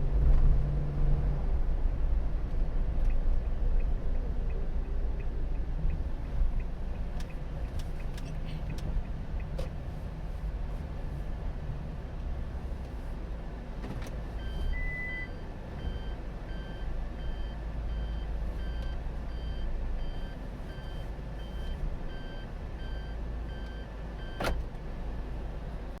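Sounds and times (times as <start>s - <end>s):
car engine rumble: 0.0s - 26.0s.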